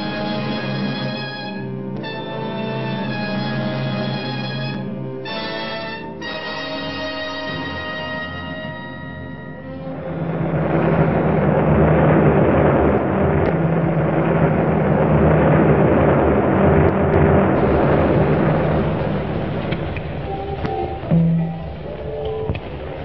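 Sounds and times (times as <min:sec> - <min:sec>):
aircraft engines droning: 0:00.0 - 0:23.0.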